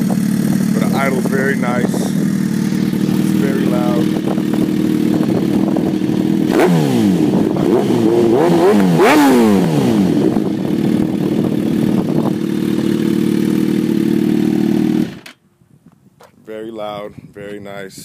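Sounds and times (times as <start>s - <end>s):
motorcycle engine revving and idling: 0.0s - 15.4s.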